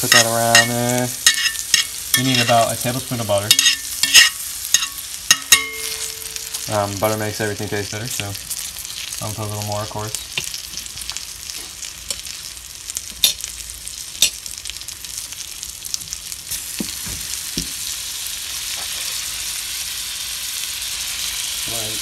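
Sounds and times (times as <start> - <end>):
fish fillets sizzling in a pan: 0.0 - 22.0.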